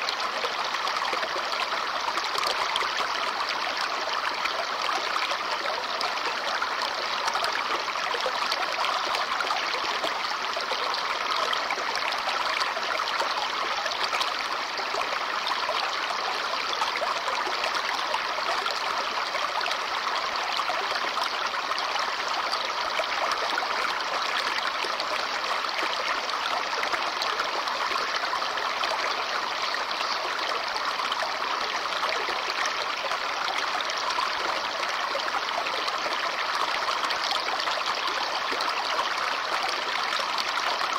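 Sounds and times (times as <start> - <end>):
brook babbling over stones: 0.0 - 40.9.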